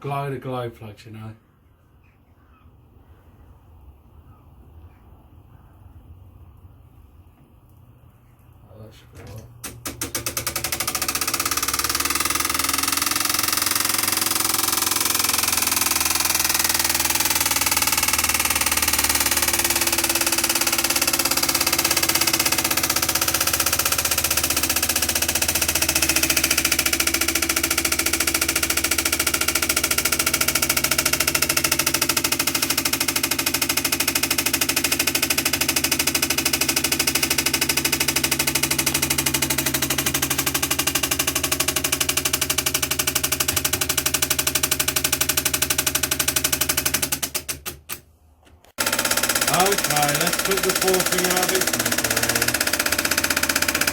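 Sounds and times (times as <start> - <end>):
fan heater motor rattling hum: 8.7 - 47.4, 48.8 - 53.9.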